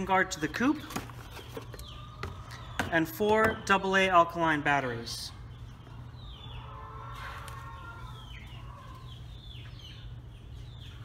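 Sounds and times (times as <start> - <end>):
chickens clucking: 0.0 - 4.0, 4.9 - 11.0.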